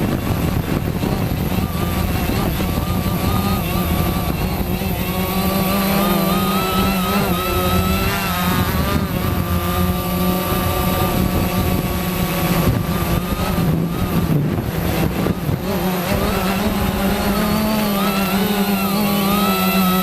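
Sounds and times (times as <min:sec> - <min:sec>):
quadcopter motors whirring: 0:00.0 - 0:20.0.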